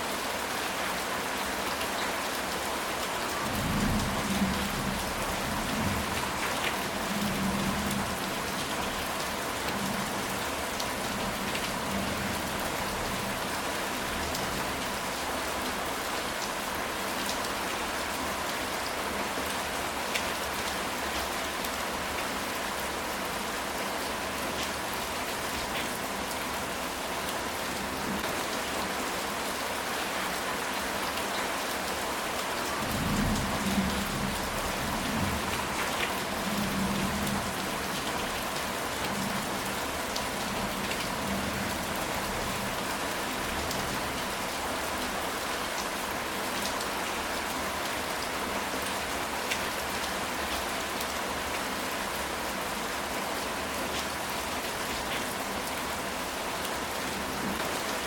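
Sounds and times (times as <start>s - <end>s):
rain on a tile roof: 0.0s - 58.0s.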